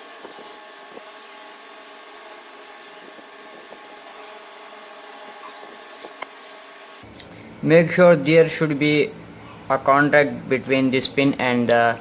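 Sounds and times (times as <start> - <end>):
faint hum tones: 0.0 - 12.0.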